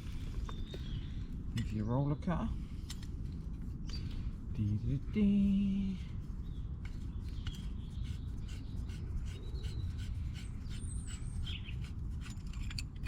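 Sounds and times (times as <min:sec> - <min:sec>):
birds chirping: 0:00.0 - 0:02.6, 0:03.8 - 0:11.9
low rumble: 0:00.0 - 0:13.0.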